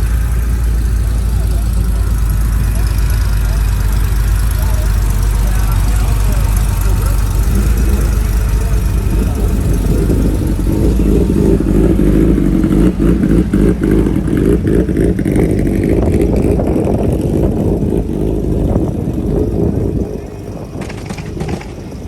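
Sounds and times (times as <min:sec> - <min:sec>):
loud vehicle engine rumbling: 0:00.0 - 0:22.0.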